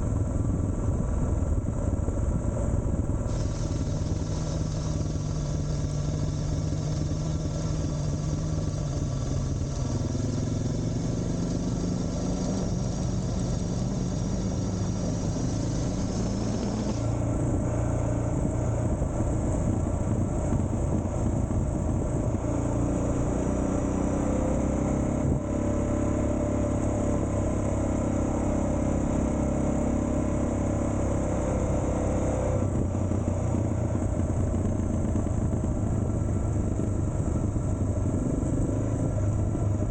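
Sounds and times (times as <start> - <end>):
wind and tyre rumble: 0.0 - 39.9
motorcycle engine revving: 3.2 - 39.9.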